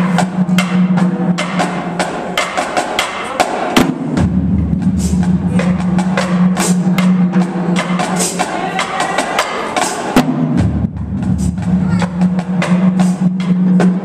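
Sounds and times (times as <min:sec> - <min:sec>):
bass drums: 0:00.0 - 0:09.5, 0:10.1 - 0:14.0
snare and tenor drum strokes: 0:00.0 - 0:14.0.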